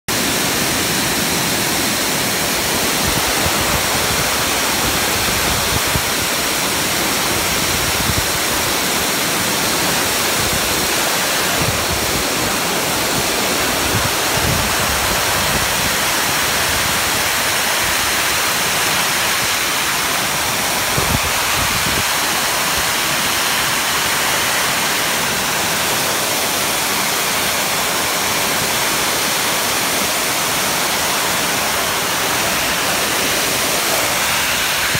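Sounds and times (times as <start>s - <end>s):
pet dryer blowing air: 0.1s - 34.9s.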